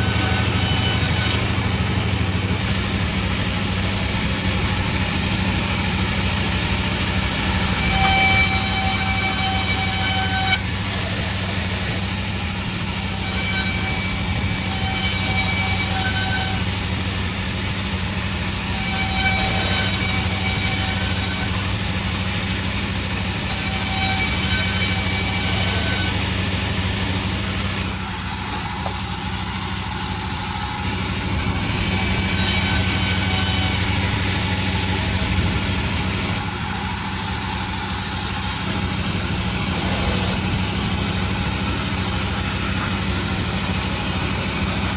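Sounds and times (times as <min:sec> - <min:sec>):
saw blade whine: 0:00.0 - 0:44.9
sawmill engine hum: 0:00.0 - 0:44.9.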